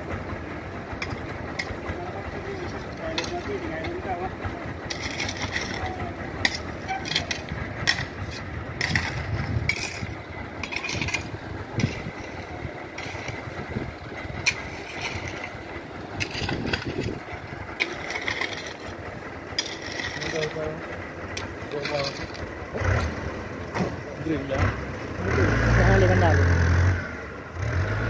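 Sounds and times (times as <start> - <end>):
low rumble: 0.0 - 26.1.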